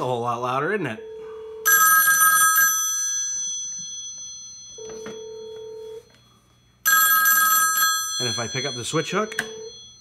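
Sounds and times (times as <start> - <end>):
telephone bell ringing: 1.0 - 10.0.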